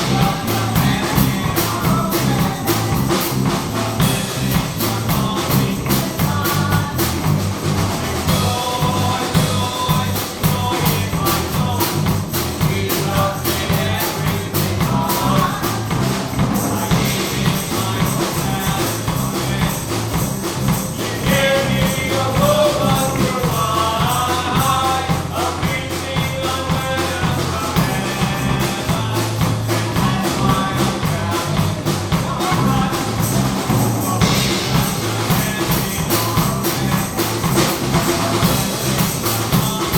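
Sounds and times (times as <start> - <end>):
drum kit beat: 0.0 - 39.9
praise band music: 0.0 - 39.9
tambourine: 0.0 - 39.9.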